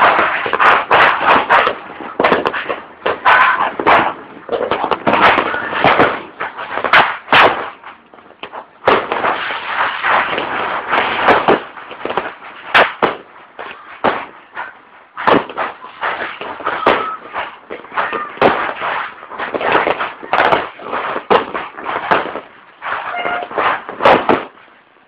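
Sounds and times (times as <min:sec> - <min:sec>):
fireworks banging and crackling: 0:00.0 - 0:25.0.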